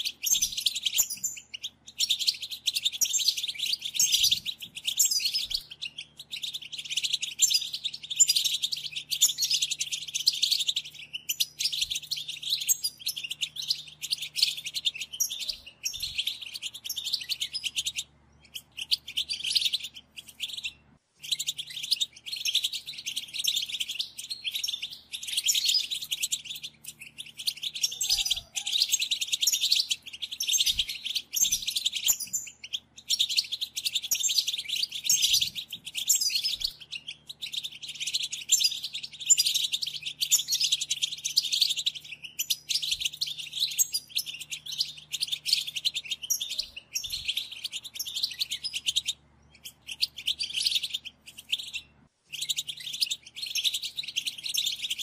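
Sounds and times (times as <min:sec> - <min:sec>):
goldfinch twittering song: 0:00.0 - 0:55.0.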